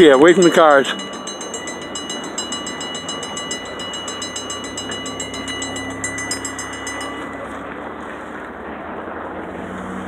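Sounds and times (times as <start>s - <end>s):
railroad crossing bell ringing: 0.0s - 8.6s
freight train rumble: 0.0s - 8.8s.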